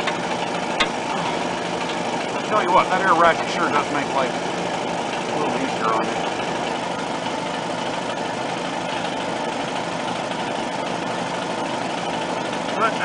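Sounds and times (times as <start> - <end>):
air compressor droning: 0.0 - 13.0.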